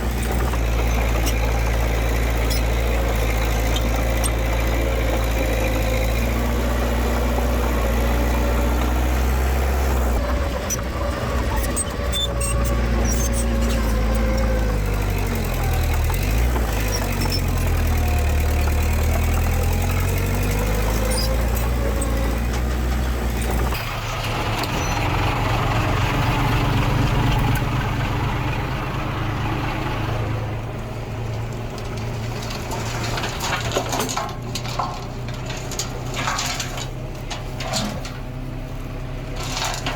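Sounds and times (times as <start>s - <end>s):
heavy machinery diesel engine: 0.0s - 39.9s
rough noisy engine: 0.0s - 39.9s.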